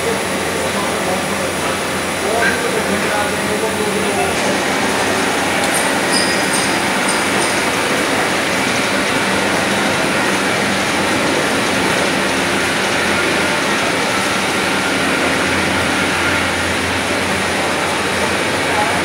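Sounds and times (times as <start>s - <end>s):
gear-cutting machines running: 0.0s - 19.0s.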